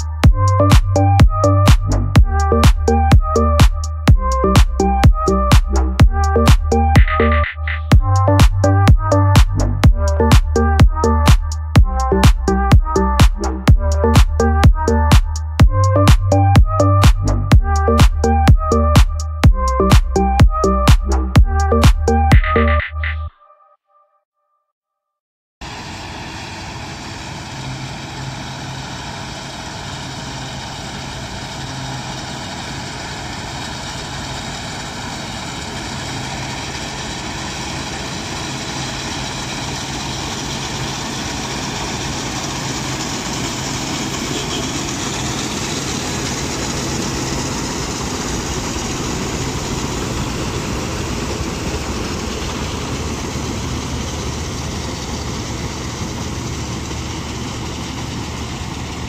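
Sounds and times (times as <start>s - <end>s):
combine harvester engine drone: 0.0s - 22.8s, 25.6s - 59.0s.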